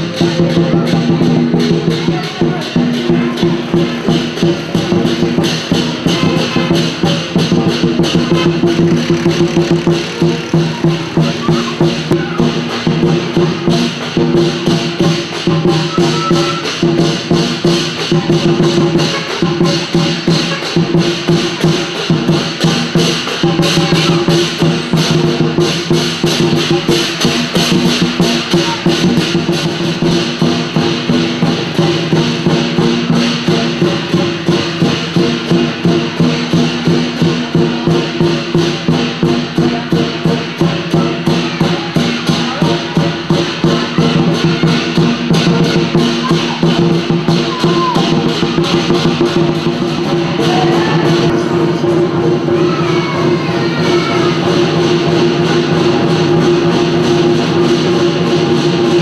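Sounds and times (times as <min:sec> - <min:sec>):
cymbals clashing: 0:00.0 - 0:59.0
drum beating: 0:00.0 - 0:59.0.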